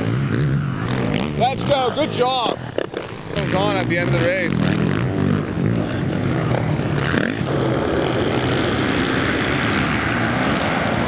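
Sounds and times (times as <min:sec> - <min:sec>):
motocross bike engines: 0:00.0 - 0:11.0.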